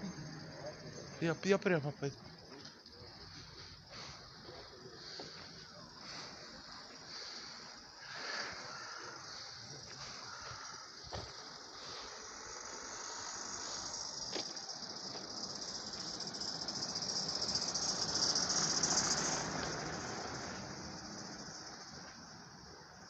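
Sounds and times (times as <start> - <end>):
car driving past: 3.3 - 22.6.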